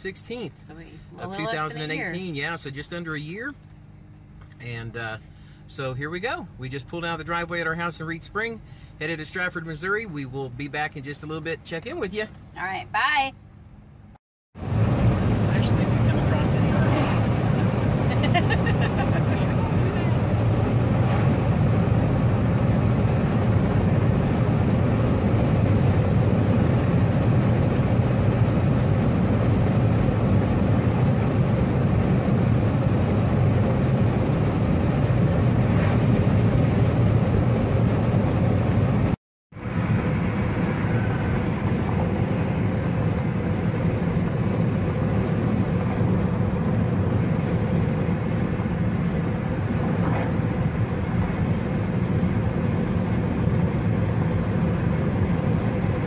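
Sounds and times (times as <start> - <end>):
car engine hum: 0.0 - 56.0
road and tyre noise: 0.0 - 56.0.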